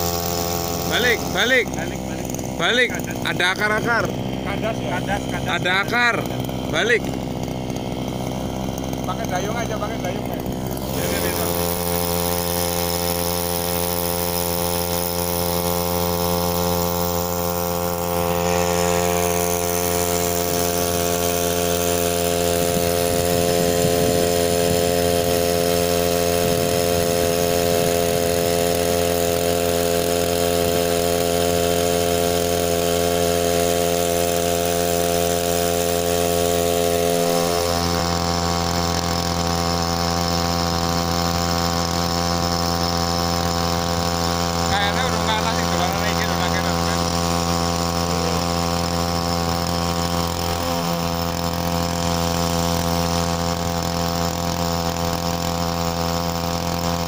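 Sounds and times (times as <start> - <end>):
two-stroke outboard motor running: 0.0 - 57.0.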